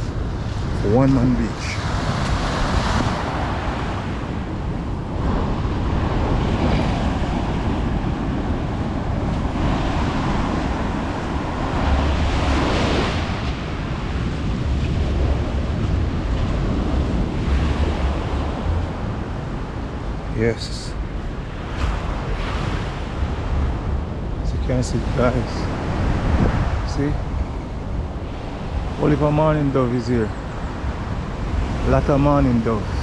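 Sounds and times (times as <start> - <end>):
sea waves breaking on shore: 0.0 - 33.0
wind buffeting microphone: 0.0 - 33.0.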